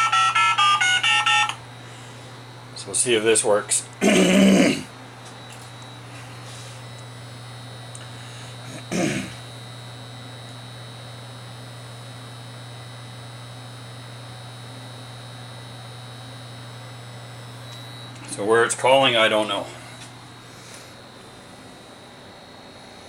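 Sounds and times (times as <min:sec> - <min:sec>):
electrical mains hum: 0:00.0 - 0:23.0
faint high whine: 0:00.0 - 0:23.0.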